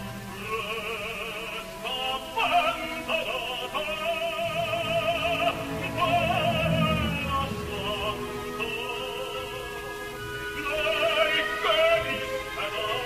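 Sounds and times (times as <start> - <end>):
operatic singing: 0.0 - 13.0
orchestra: 0.0 - 13.0.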